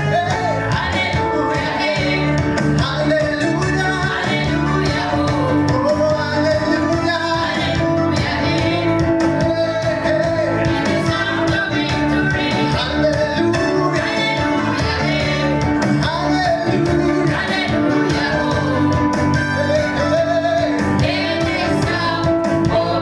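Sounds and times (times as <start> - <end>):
bass line: 0.0 - 23.0
church singers singing gospel: 0.0 - 23.0
guitar: 0.0 - 23.0.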